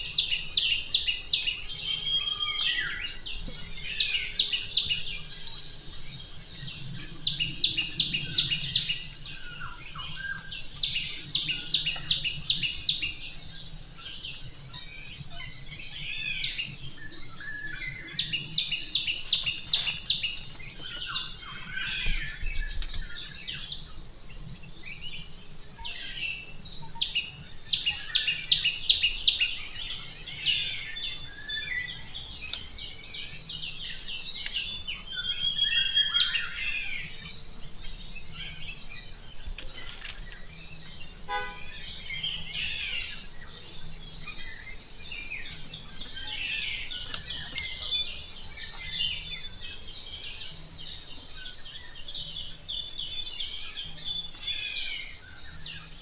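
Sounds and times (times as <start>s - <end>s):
birds chirping: 0.0s - 23.8s, 24.4s - 56.0s
high-pitched insect trill: 0.0s - 56.0s.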